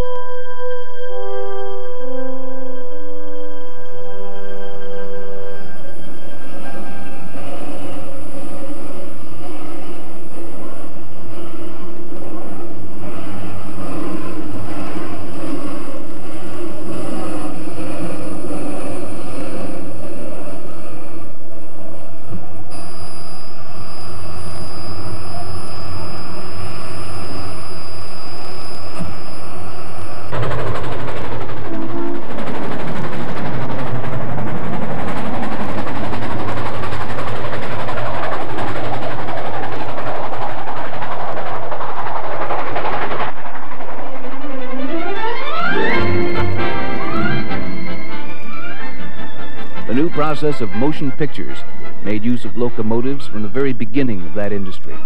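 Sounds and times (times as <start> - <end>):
thin high whine: 0.0 - 55.0
steady mechanical hum: 2.8 - 47.6
train running rushing noise: 2.8 - 55.0.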